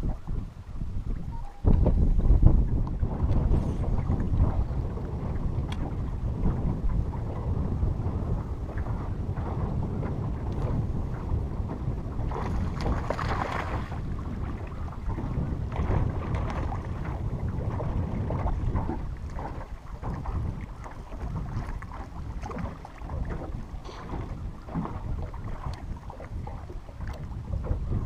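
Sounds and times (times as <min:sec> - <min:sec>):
water lapping against boat hull: 0:00.0 - 0:28.0
wind buffeting microphone: 0:00.0 - 0:28.0.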